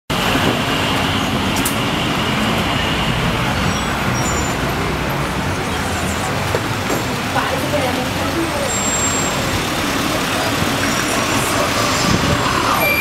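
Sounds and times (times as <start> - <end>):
street traffic noise: 0.1 - 13.0.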